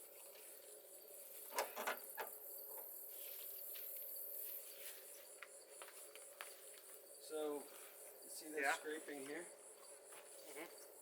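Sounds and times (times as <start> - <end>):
insects chirping: 0.2 - 11.0.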